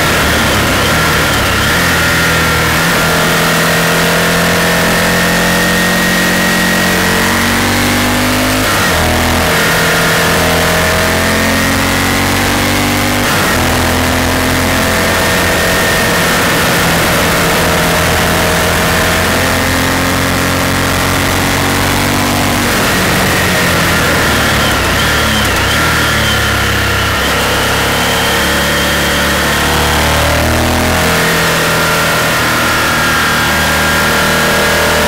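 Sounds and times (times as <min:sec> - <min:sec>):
motorcycle engine pulling: 0:00.0 - 0:35.0.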